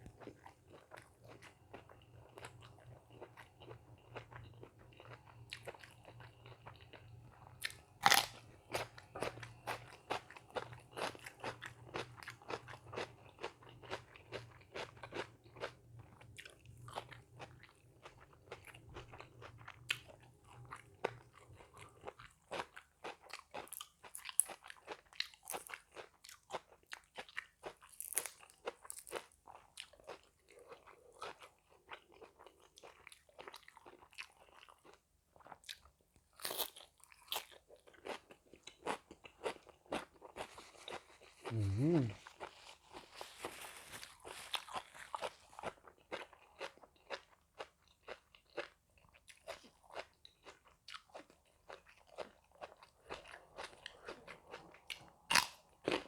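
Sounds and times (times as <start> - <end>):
person chewing crisp food: 0.0 - 56.0.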